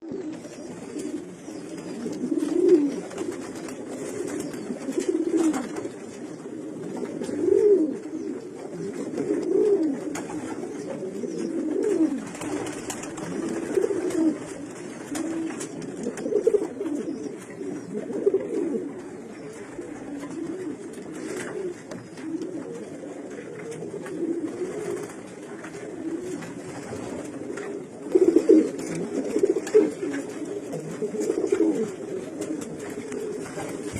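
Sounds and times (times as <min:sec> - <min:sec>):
pigeons cooing: 0:00.0 - 0:33.9.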